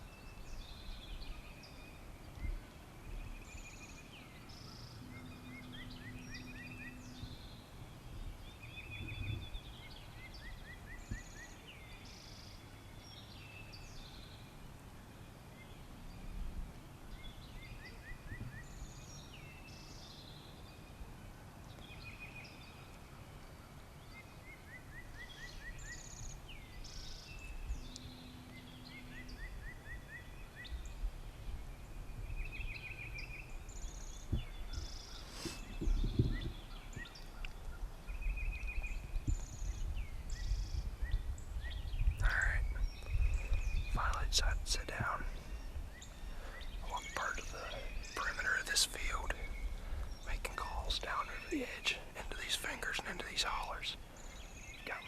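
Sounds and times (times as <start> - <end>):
low steady hum: 0.0 - 55.0
songbirds singing: 0.0 - 55.0.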